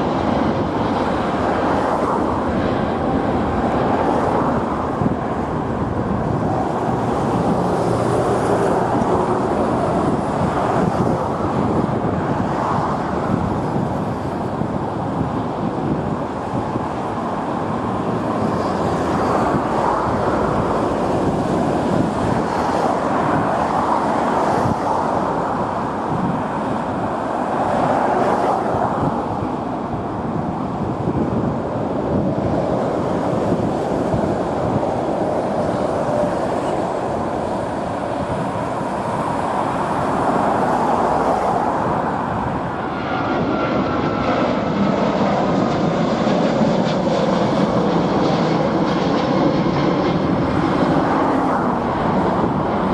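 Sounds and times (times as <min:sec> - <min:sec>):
jet engines at takeoff thrust: 0:00.0 - 0:52.9.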